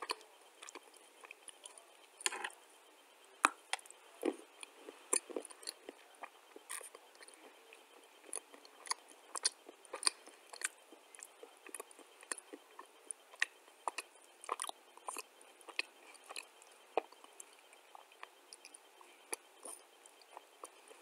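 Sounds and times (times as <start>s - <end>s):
clay chunks being chewed: 0.0s - 2.6s, 3.4s - 21.0s.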